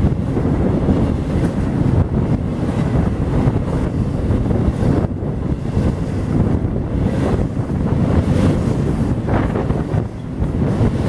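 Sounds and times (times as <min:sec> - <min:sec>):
freight train wheels rumbling on rail: 0:00.0 - 0:11.0
wind buffeting microphone: 0:00.0 - 0:11.0.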